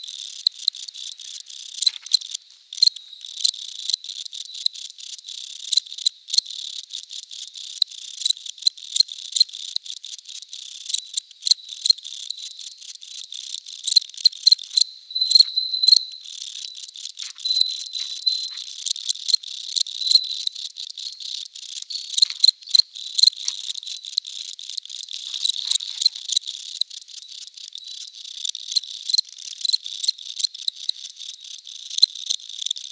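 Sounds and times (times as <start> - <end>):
crickets chirping: 0.0 - 8.4, 9.3 - 32.8.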